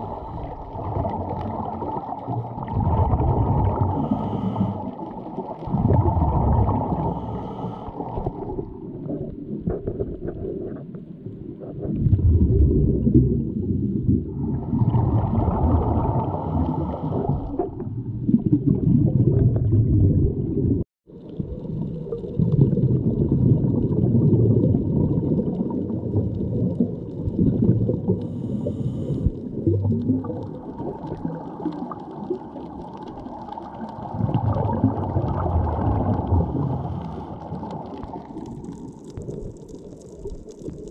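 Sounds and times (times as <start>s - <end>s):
underwater rumbling and gurgling: 0.0s - 40.9s.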